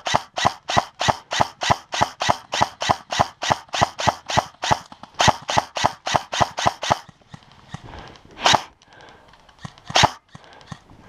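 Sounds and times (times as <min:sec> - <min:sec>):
airsoft rifle shots: 0:00.0 - 0:10.8.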